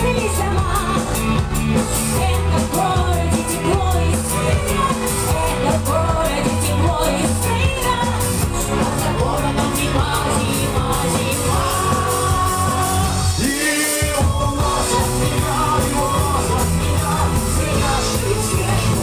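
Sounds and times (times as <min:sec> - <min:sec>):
live rock band playing: 0:00.0 - 0:19.0
person singing: 0:02.1 - 0:19.0.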